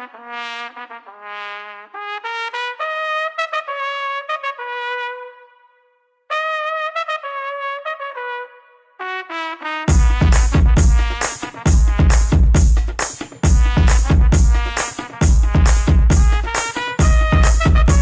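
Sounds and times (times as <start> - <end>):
lone brass melody: 0.0 - 18.0.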